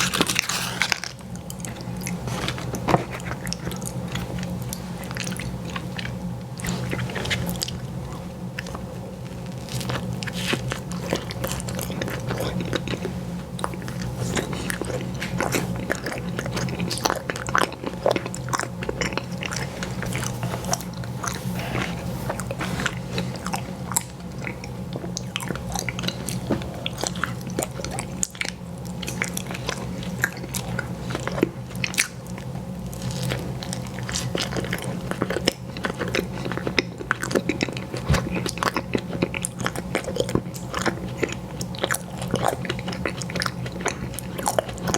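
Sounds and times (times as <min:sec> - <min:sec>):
crunchy biting and chewing: 0:00.0 - 0:44.9
steady low hum: 0:00.0 - 0:44.9.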